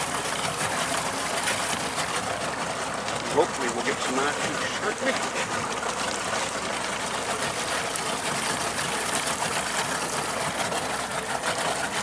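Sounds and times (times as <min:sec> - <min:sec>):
rushing water from moving boat: 0:00.0 - 0:12.0.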